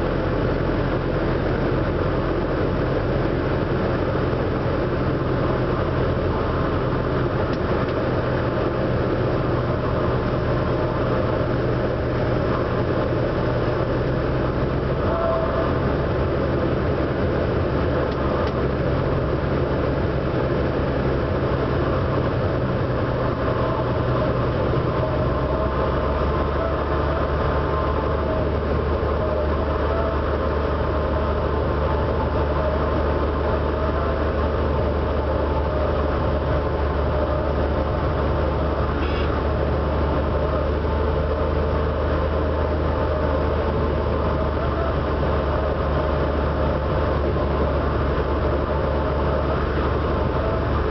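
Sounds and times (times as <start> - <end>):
airplane engine and propeller drone: 0.0 - 50.9.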